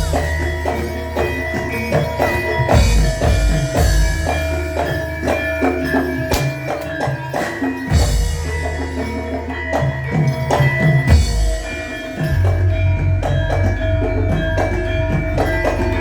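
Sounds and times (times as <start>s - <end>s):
struck tuned metal percussion: 0.0s - 16.0s.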